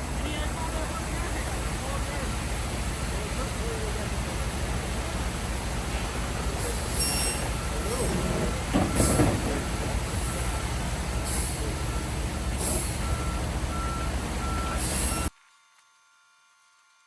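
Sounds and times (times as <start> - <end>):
diesel engine running: 0.0 - 15.3
truck reversing alarm beeping: 0.6 - 15.3.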